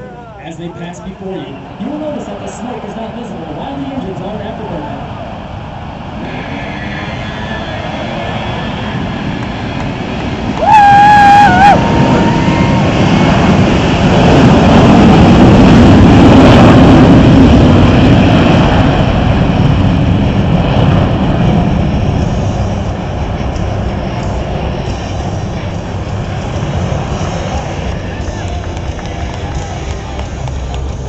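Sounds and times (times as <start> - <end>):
jet roar: 0.0 - 31.0.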